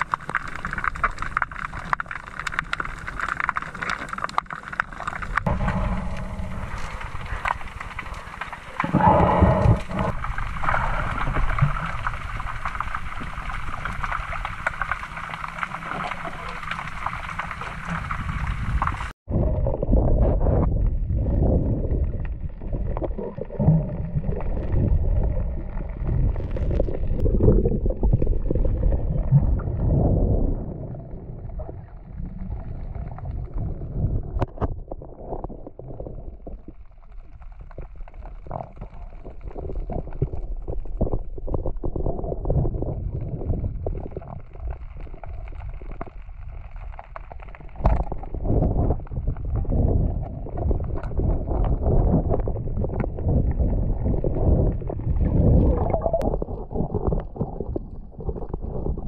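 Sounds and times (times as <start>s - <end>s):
muffled underwater water swishing: 0.0s - 59.0s.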